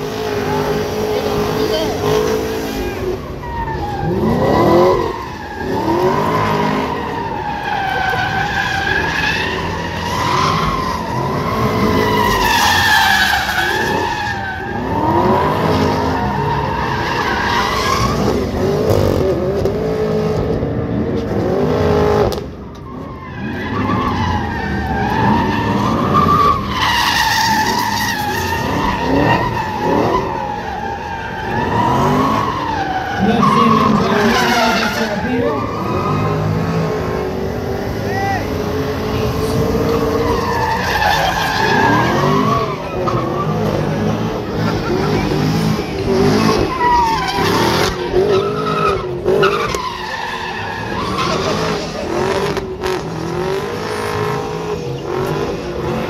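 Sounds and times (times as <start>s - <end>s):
car engine revving: 0.0s - 56.0s
tires squealing: 0.0s - 56.0s.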